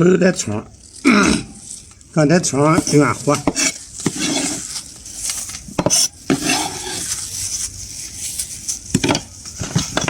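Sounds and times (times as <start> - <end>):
light sizzle: 0.1 - 10.0
metal utensil scraping a pot: 0.4 - 10.0.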